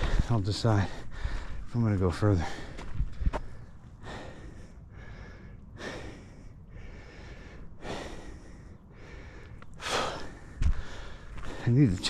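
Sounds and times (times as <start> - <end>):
person breathing hard: 0.0 - 0.3, 0.9 - 1.6, 2.4 - 11.8.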